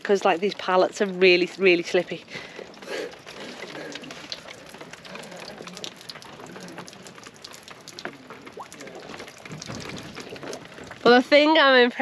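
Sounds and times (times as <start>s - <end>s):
raindrops ticking on hard surfaces: 0.0s - 12.0s
steady rain falling: 0.0s - 12.0s.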